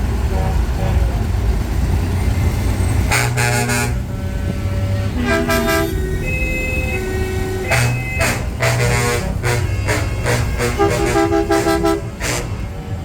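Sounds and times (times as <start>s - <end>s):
truck engine rumble: 0.0s - 13.0s
truck horn blasts: 0.2s - 1.4s, 3.0s - 13.0s.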